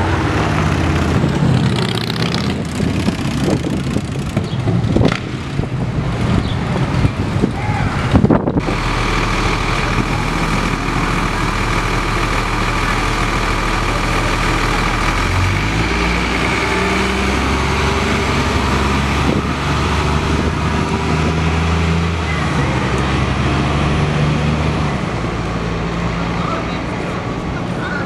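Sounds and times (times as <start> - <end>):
bus diesel engine idling and revving: 0.0 - 28.0.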